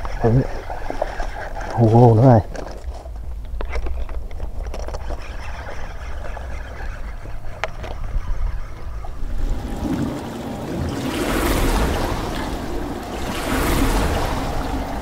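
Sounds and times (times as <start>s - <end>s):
water lapping and splashing: 0.0s - 3.0s, 4.5s - 15.0s.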